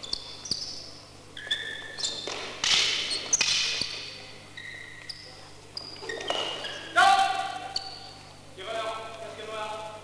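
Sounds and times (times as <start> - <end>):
sneakers squeaking on gym floor: 0.0 - 8.4.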